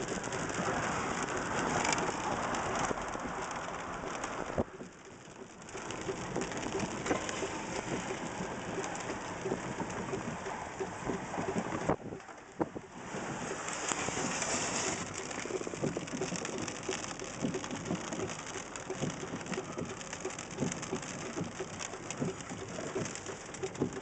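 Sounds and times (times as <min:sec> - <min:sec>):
heavy rain hissing: 0:00.0 - 0:04.6, 0:05.7 - 0:12.0, 0:12.9 - 0:23.6
raindrops pattering on a surface: 0:00.0 - 0:24.0.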